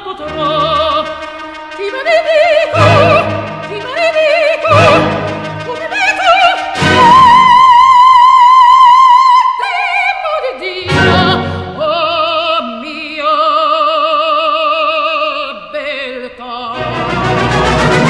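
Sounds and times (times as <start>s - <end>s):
operatic singing with vibrato: 0.0s - 18.0s.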